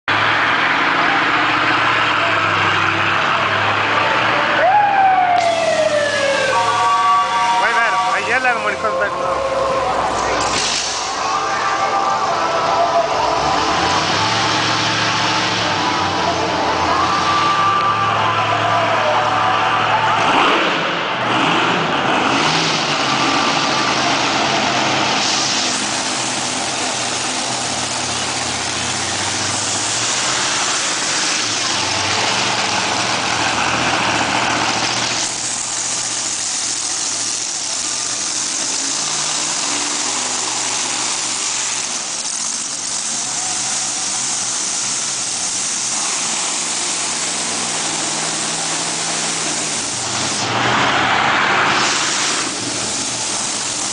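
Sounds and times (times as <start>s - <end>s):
monster truck engine revving: 0.0s - 53.9s.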